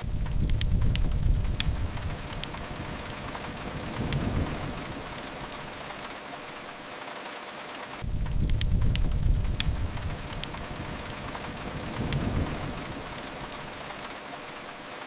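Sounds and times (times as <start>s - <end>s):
low rumble: 0.0s - 6.2s, 8.0s - 14.7s
faint sharp clicks: 0.0s - 6.7s, 7.4s - 15.0s
steady rain: 0.0s - 15.0s.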